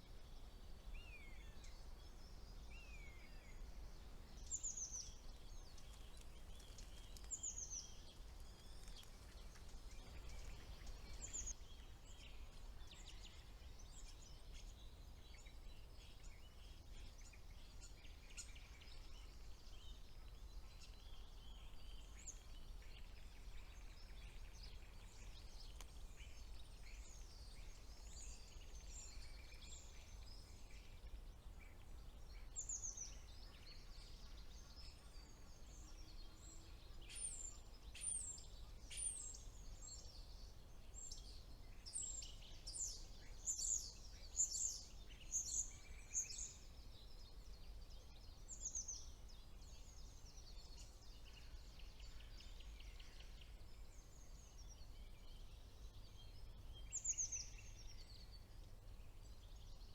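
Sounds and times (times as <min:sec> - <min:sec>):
songbird chirps and trills: 0:00.0 - 0:59.9.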